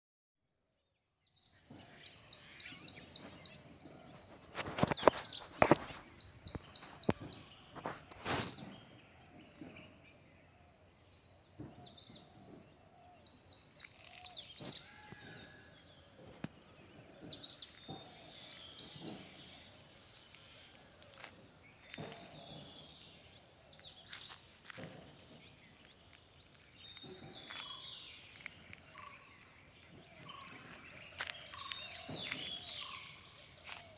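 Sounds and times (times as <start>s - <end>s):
small birds chirping: 1.2s - 33.9s.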